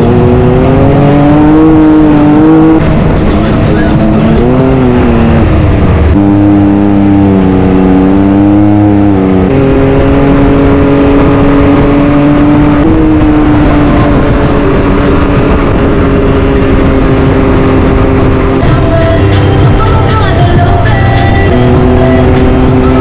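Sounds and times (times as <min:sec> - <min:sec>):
engine and exhaust while driving: 0:00.0 - 0:23.0.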